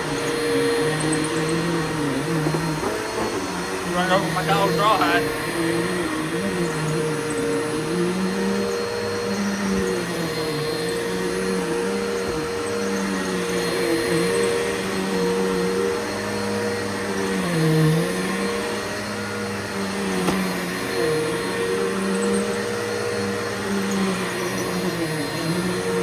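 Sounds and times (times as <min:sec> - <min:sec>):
vacuum cleaner running on carpet: 0:00.0 - 0:26.0.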